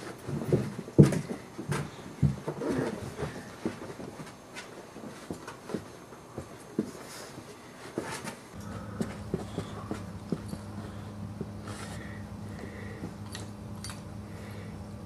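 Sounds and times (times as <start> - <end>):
paws scuffling on carpet: 0.0 - 13.2
steady low hum: 0.0 - 15.0.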